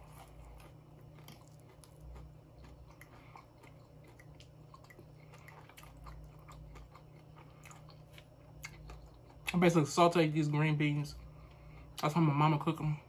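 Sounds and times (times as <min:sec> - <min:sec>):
person chewing soft food: 0:00.0 - 0:09.9, 0:11.1 - 0:12.2.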